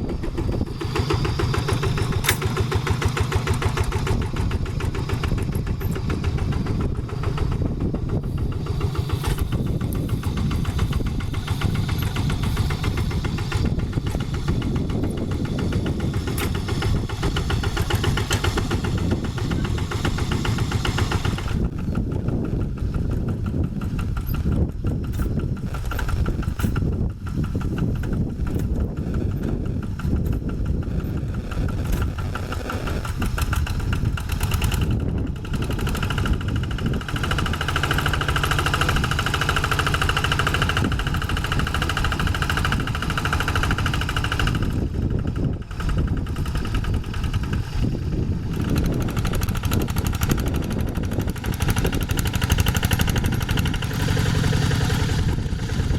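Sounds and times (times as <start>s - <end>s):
diesel engine chugging: 0.0s - 55.9s.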